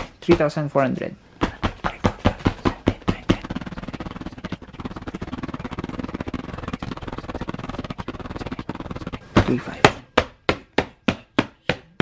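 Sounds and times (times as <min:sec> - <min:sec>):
hand slapping paper: 0:01.4 - 0:12.0.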